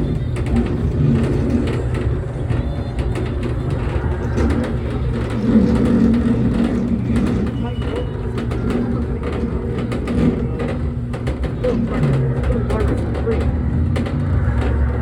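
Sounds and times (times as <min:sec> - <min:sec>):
kiddie ride mechanical drone: 0:00.0 - 0:15.0.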